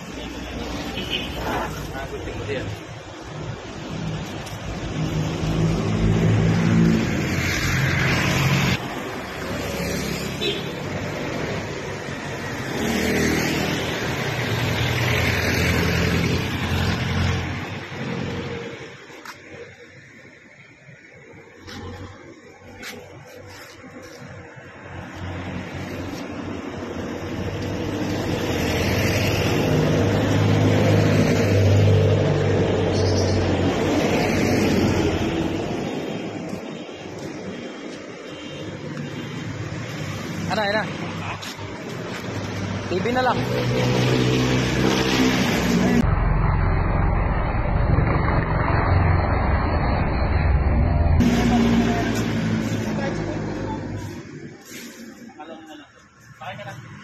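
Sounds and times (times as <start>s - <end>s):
low engine and traffic sound: 0.0s - 57.0s.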